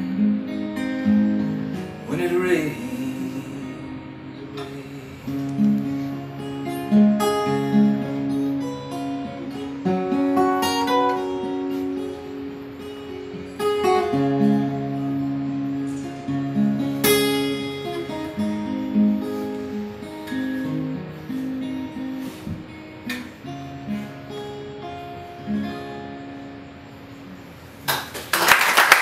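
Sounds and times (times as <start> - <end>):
acoustic guitar chords: 0.0 - 27.9.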